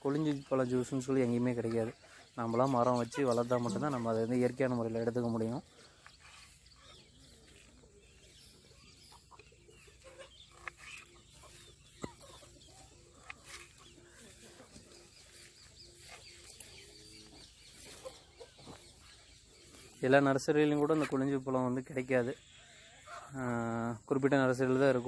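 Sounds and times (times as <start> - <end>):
hen clucking: 0.1 - 21.5, 22.4 - 25.0.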